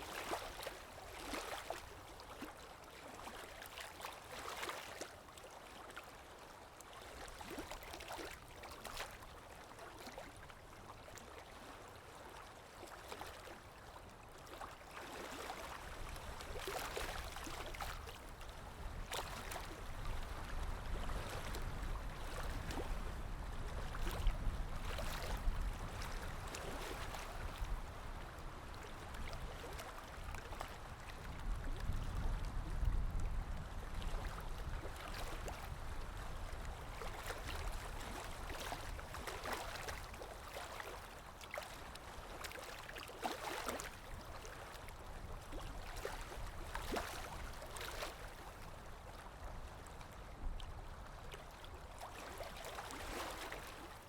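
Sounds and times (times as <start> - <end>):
water lapping: 0.0 - 54.0.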